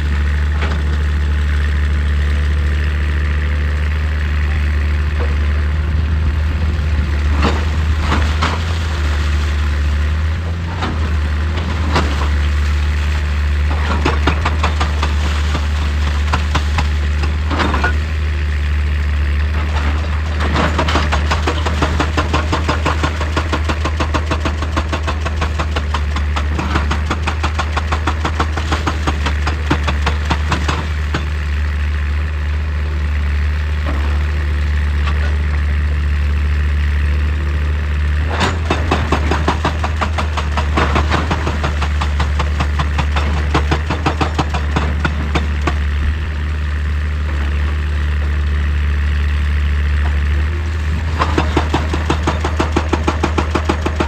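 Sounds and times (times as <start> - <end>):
excavator engine droning: 0.0 - 54.0.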